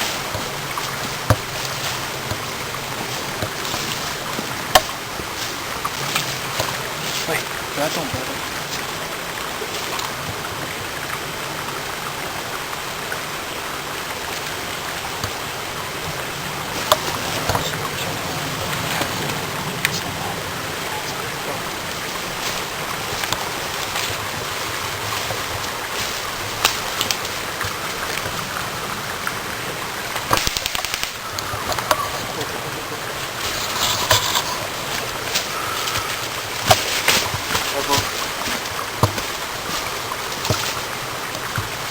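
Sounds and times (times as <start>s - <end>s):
flowing water rushing: 0.0s - 41.9s.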